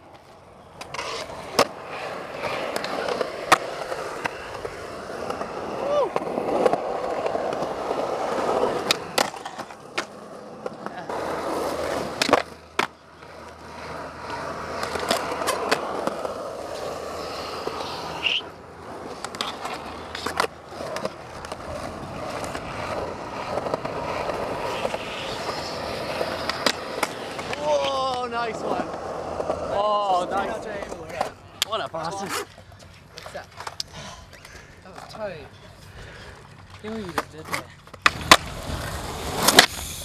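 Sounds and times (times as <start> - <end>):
skateboard clacking on ground: 0.0 - 35.8, 36.4 - 40.0
skateboard wheels rolling on concrete: 0.0 - 40.0.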